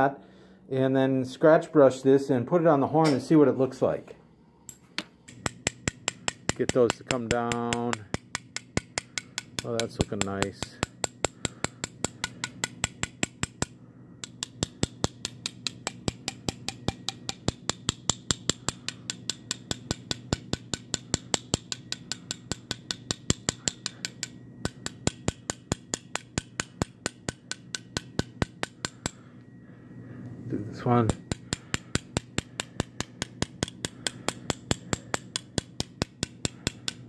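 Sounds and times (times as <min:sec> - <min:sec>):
small hammer tapping on brass: 0:04.7 - 0:29.4, 0:31.0 - 0:37.0.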